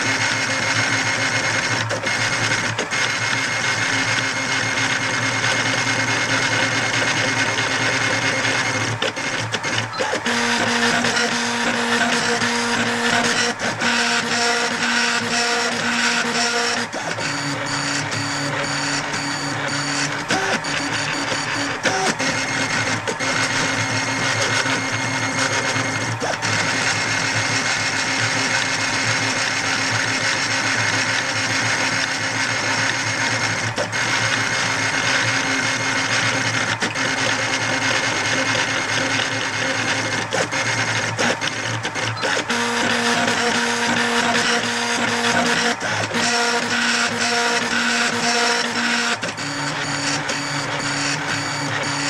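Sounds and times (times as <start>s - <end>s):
stepper motors whining: 1.0s - 29.8s, 32.3s - 52.0s.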